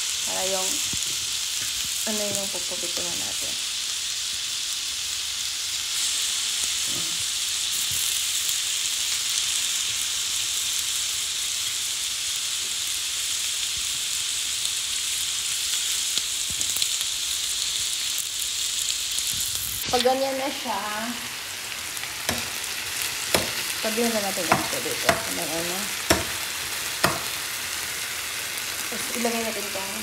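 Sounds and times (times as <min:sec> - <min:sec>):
chicken sizzling in a frying pan: 0:00.0 - 0:30.0.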